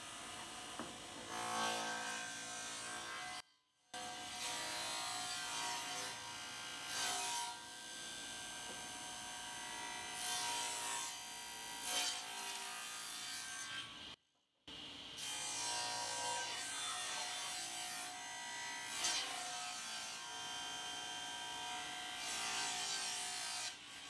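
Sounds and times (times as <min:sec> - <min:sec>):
cutter cutting wooden boards: 0:00.0 - 0:03.4, 0:04.0 - 0:13.9, 0:15.2 - 0:24.0.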